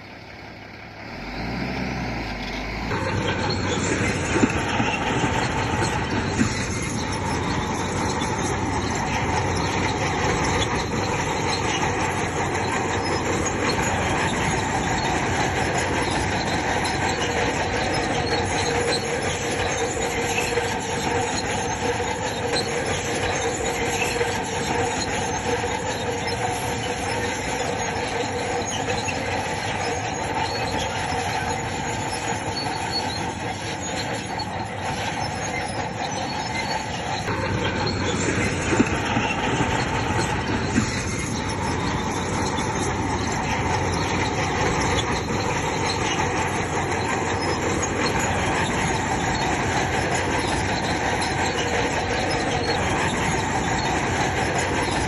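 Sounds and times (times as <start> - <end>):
bulldozer engine running: 0.0 - 55.0
steel tracks squealing: 0.0 - 55.0.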